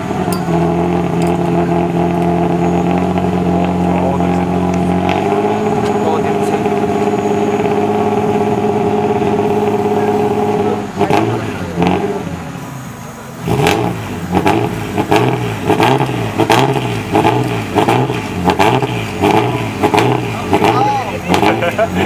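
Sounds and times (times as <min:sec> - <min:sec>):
engine exhaust cracks: 0:00.0 - 0:12.3, 0:13.4 - 0:22.0
car engine revving: 0:00.0 - 0:22.0.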